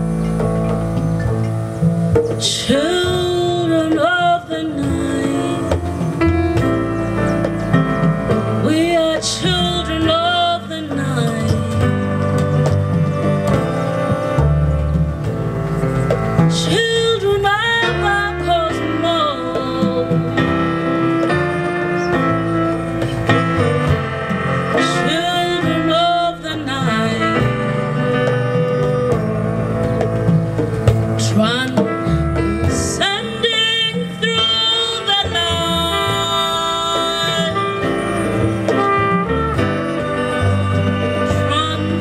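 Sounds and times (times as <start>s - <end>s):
piano chords: 0.0s - 42.0s
sliding melody line: 0.0s - 42.0s
walking bass line: 0.0s - 42.0s.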